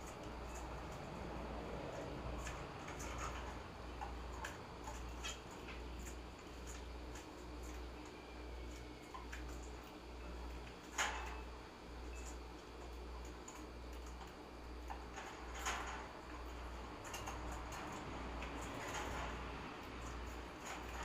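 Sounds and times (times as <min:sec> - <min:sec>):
birds tapping on perches: 0:00.0 - 0:21.0.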